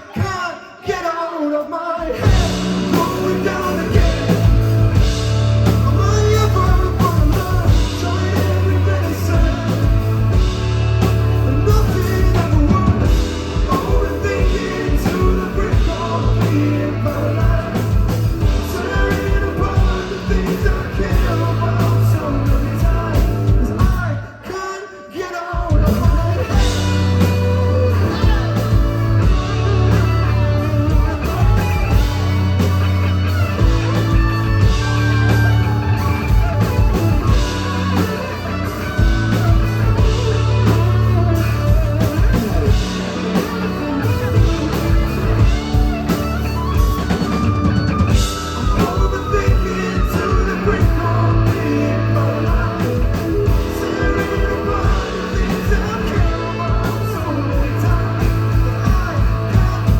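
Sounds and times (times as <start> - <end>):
live rock band playing: 2.0 - 59.9.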